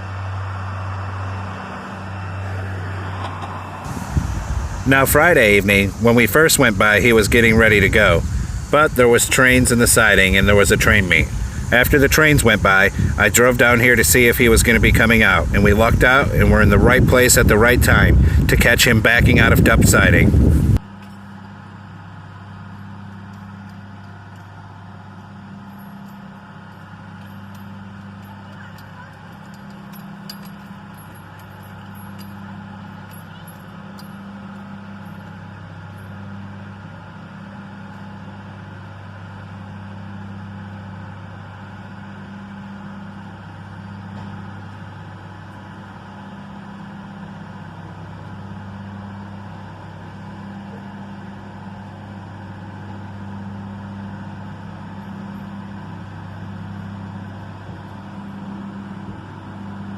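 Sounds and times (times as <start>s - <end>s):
diesel engine throbbing hum: 0.0s - 59.9s.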